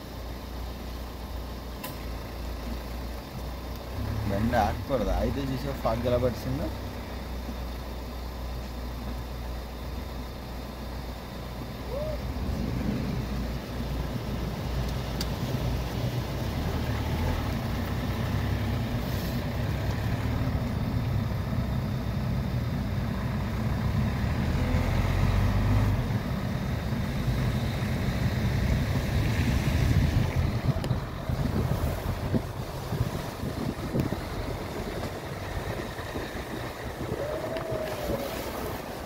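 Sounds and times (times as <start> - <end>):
car engine and tyre rumble: 0.0 - 39.0.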